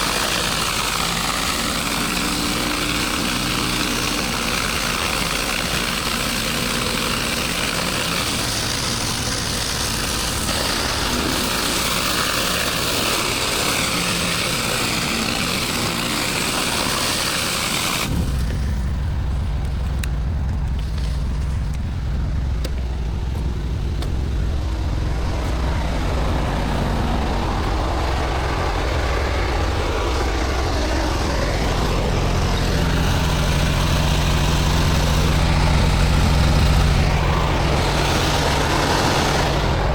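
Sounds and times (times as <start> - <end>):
high-pressure water spray hissing: 0.0 - 18.9, 25.0 - 39.9
pressure washer engine running: 0.0 - 39.9.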